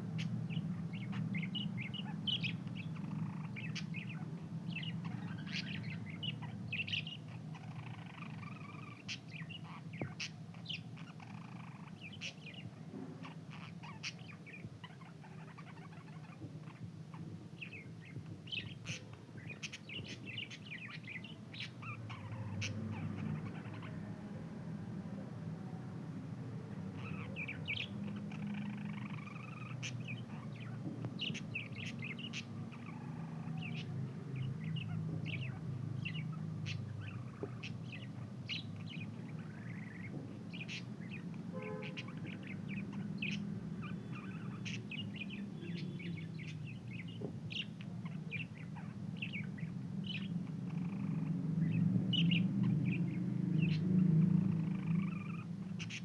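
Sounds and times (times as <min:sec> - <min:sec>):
budgerigars chirping: 0:00.1 - 0:24.1, 0:26.8 - 0:56.0.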